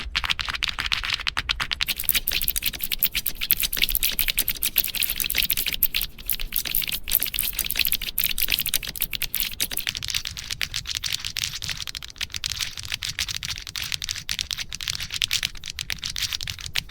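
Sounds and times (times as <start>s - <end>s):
keyboard keys clicking: 1.8s - 16.9s.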